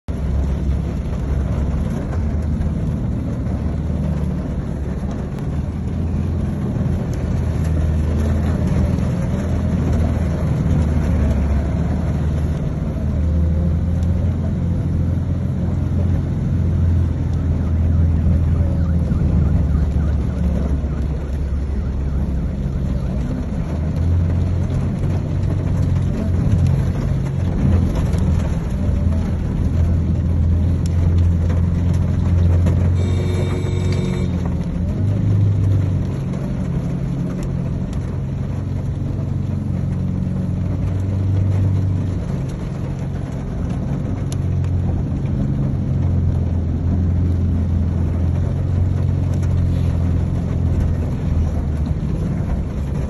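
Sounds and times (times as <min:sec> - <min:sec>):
car driving through floodwater: 0:00.0 - 0:53.0.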